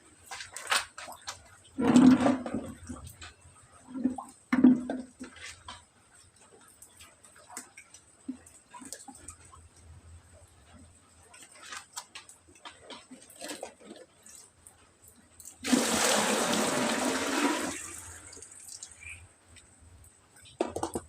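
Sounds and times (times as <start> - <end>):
water dripping and tapping: 0.2 - 15.7, 18.3 - 21.0.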